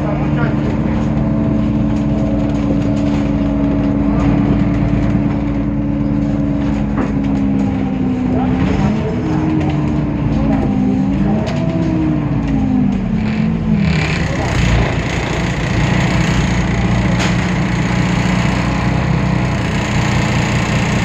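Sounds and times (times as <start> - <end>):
bus diesel engine humming: 0.0 - 21.0.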